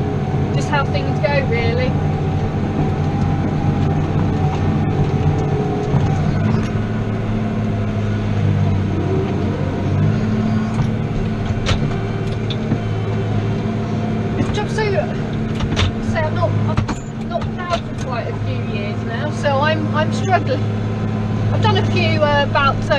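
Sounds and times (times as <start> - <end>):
tractor diesel engine under load: 0.0 - 22.9.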